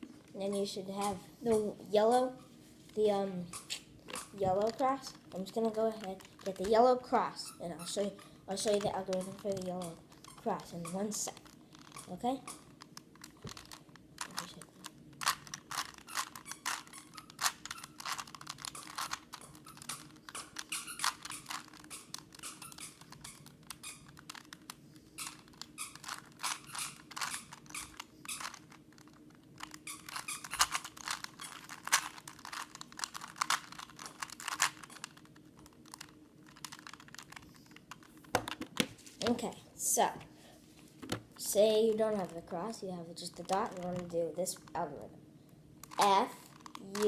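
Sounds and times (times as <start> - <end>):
puzzle cube clicking and rattling: 3.0 - 39.4, 41.6 - 45.0, 45.8 - 47.0.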